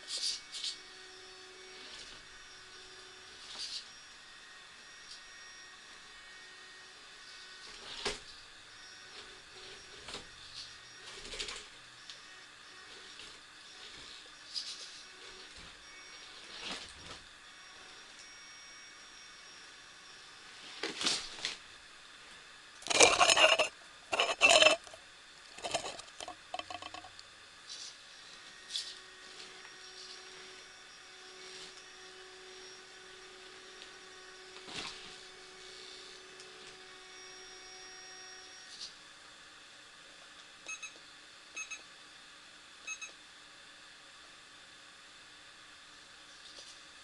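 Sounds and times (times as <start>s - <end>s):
faint motor whine: 0.0s - 47.0s.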